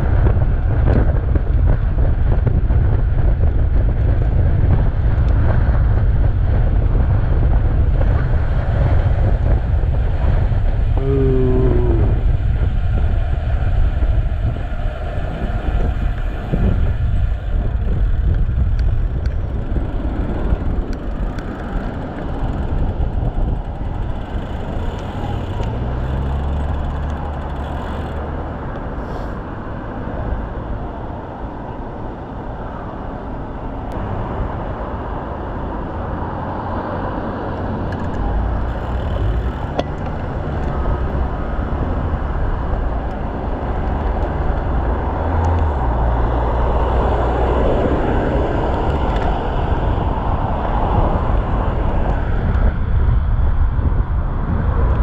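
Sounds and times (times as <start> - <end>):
wind on microphone: 0.0 - 55.0
highway traffic passing: 1.6 - 55.0.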